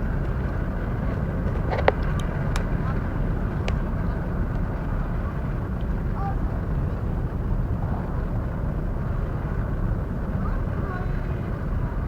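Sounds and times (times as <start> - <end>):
ferry engine rumble: 0.0 - 12.0
faint distant voices: 1.2 - 12.0.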